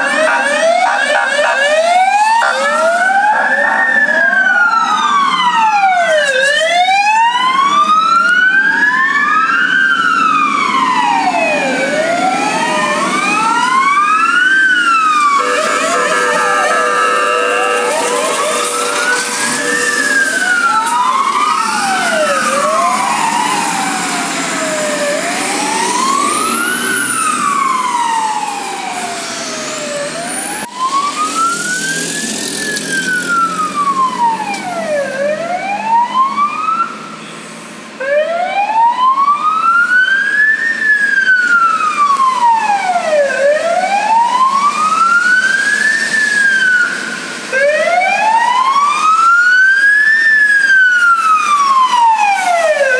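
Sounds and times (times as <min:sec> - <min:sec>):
fire engine sirens wailing: 0:00.0 - 0:52.9.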